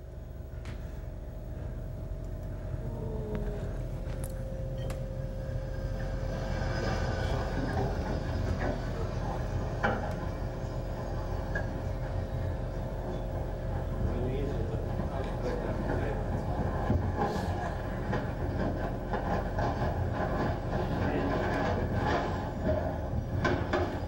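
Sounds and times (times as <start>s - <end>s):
helicopter engines and rotors running: 0.0s - 24.0s.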